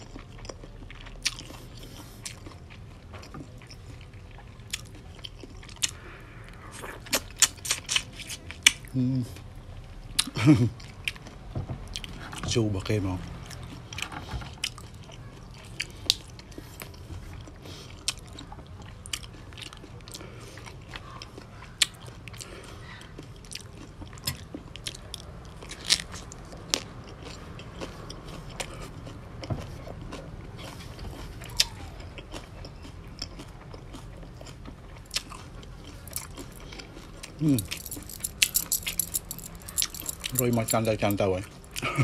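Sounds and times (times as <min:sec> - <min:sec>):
man chewing crunchy cabbage: 0:00.0 - 0:12.5, 0:13.2 - 0:42.0.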